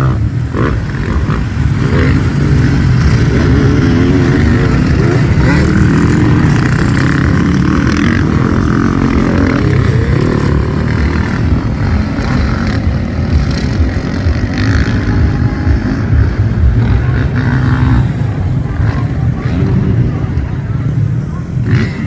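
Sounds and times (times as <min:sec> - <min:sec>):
motocross bike engines running: 0:00.0 - 0:22.0.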